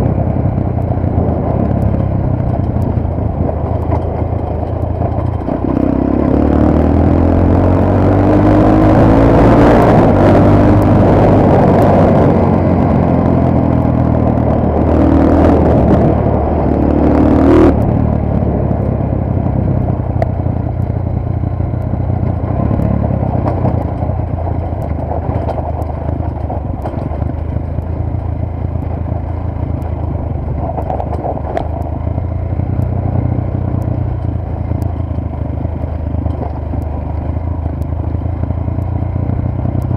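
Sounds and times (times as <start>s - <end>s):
wind rushing over microphone: 0.0s - 37.9s
motorcycle engine running: 0.0s - 39.9s.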